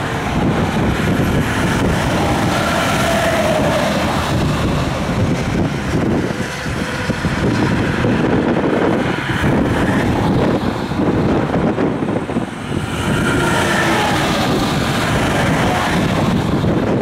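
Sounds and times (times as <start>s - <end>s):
highway traffic: 0.0s - 17.0s
wind on microphone: 0.0s - 17.0s.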